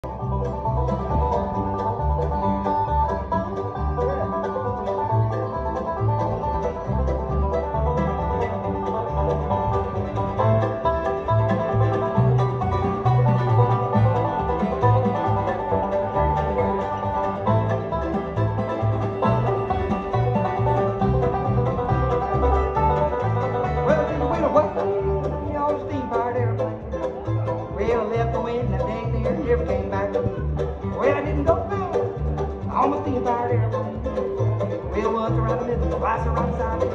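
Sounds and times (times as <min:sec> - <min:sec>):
acoustic guitar: 0:00.0 - 0:36.9
banjo picking: 0:00.0 - 0:36.9
mandolin: 0:00.0 - 0:36.9
upright bass: 0:00.0 - 0:36.9.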